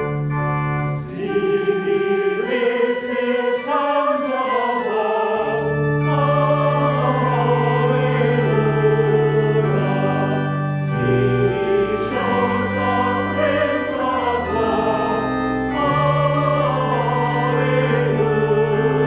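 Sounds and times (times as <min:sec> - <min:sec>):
choir singing a hymn: 0:00.0 - 0:19.0
organ accompaniment: 0:00.0 - 0:19.0.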